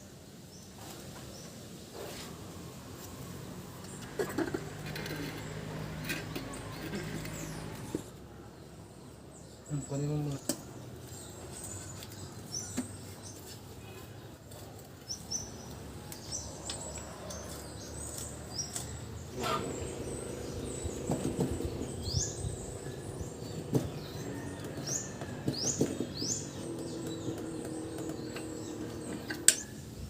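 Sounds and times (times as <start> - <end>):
small birds chirping: 0.5 - 30.0.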